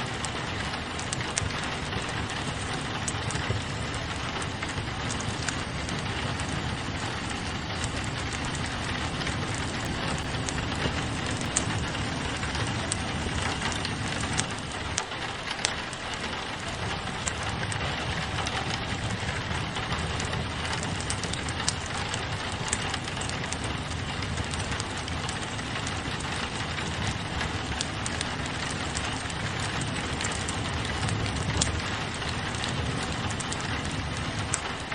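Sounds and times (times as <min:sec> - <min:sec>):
rain pattering on window glass: 0:00.0 - 0:34.9
sharp pops of fire: 0:00.0 - 0:34.9
wood fire crackling: 0:00.0 - 0:34.9.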